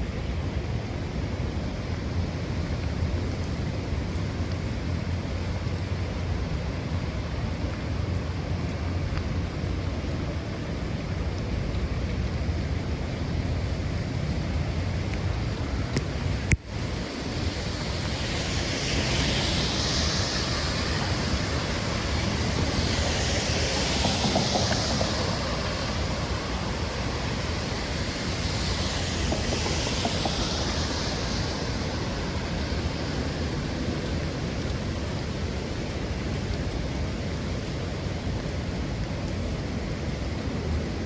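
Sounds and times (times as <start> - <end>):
heavy rain on street: 0.0 - 41.0
tyre hiss on wet road: 0.0 - 41.0.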